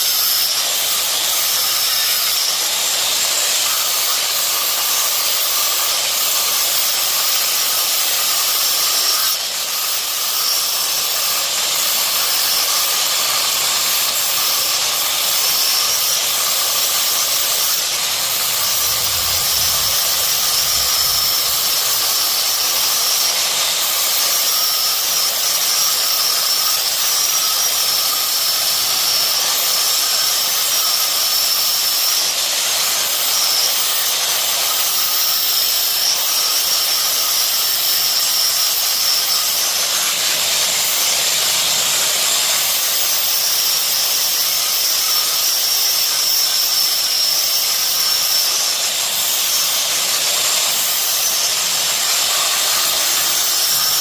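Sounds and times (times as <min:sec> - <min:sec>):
plasma cutter hissing: 0:03.1 - 0:29.8, 0:34.7 - 0:54.0.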